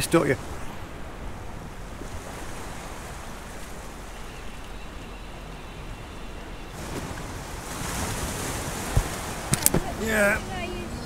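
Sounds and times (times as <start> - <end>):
sea waves on rocky shore: 0.0 - 11.0.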